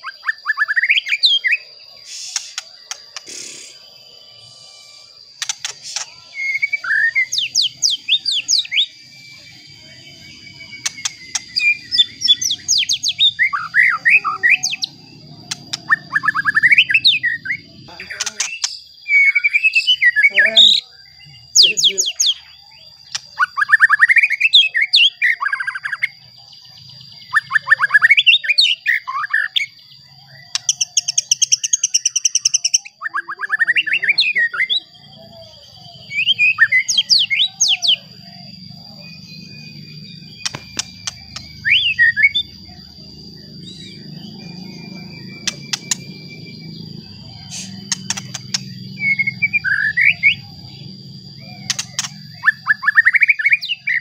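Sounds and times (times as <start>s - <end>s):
bird singing: 0.0s - 54.0s.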